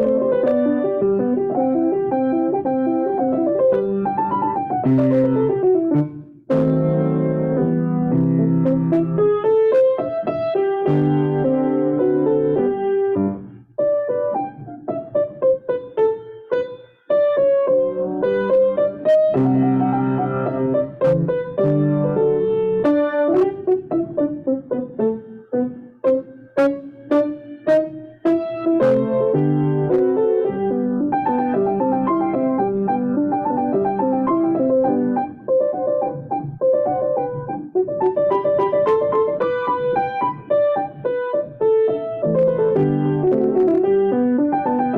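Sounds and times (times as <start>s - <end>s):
solo piano: 0.0s - 44.9s.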